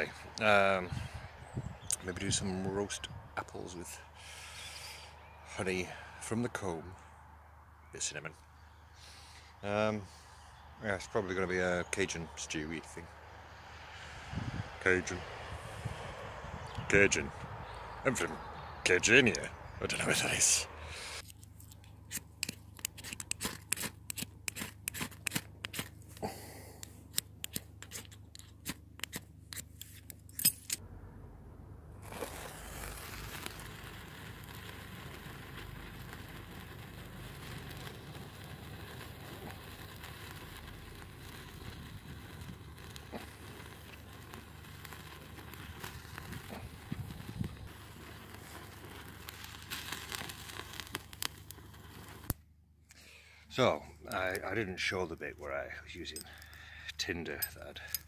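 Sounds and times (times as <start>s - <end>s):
fire hissing and crackling: 0.0s - 6.6s, 8.0s - 30.0s, 32.0s - 58.0s.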